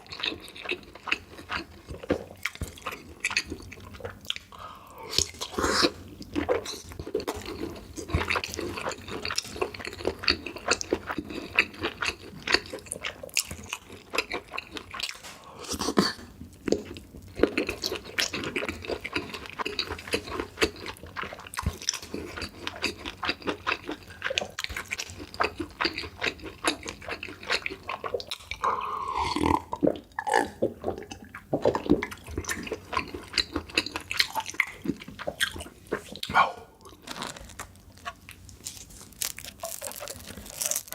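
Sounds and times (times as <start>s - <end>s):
wet chewing: 0.0s - 4.5s, 5.1s - 40.9s.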